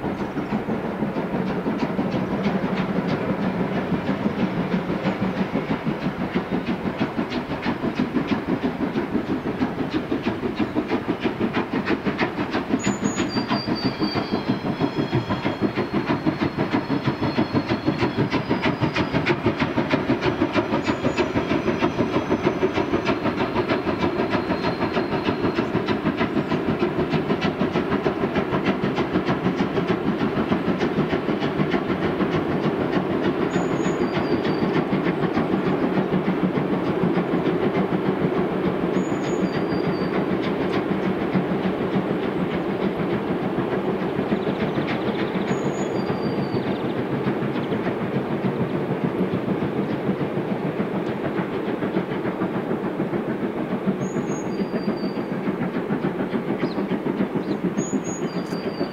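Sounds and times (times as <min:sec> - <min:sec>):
steam locomotive chuffing: 0:00.0 - 0:58.9.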